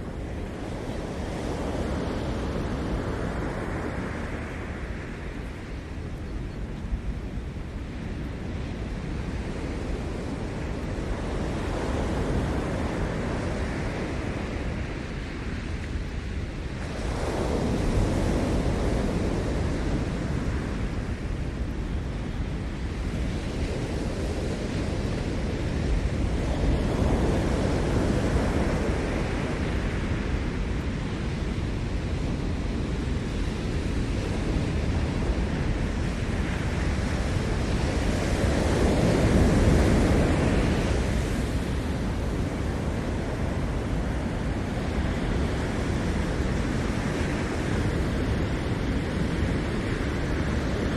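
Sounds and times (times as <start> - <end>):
ocean surf breaking on shore: 0.0 - 6.2, 7.0 - 50.9.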